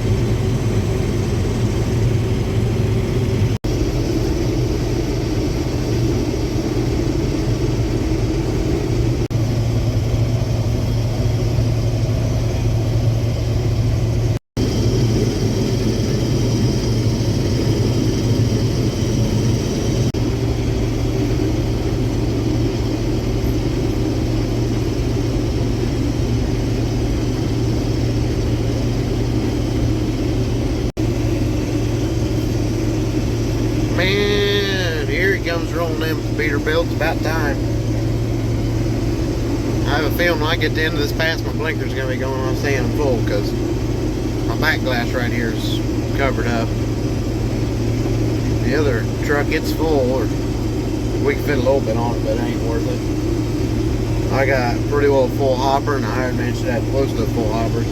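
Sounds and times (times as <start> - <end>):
combine harvester droning: 0.0 - 57.9.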